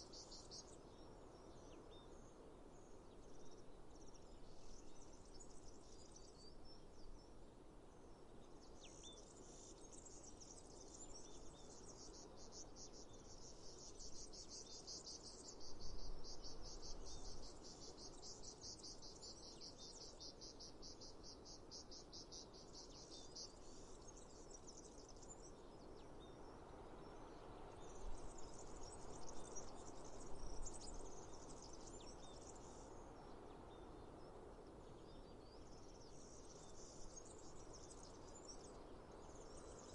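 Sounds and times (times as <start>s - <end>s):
insects chirping in a trill: 0.0s - 2.0s, 8.7s - 34.6s, 35.4s - 39.9s
faint outdoor hiss: 0.0s - 39.9s.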